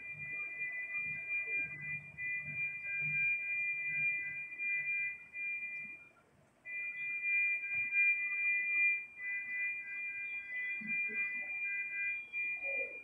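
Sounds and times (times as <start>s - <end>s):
electronic alarm beep: 0.0s - 6.1s, 6.7s - 13.0s.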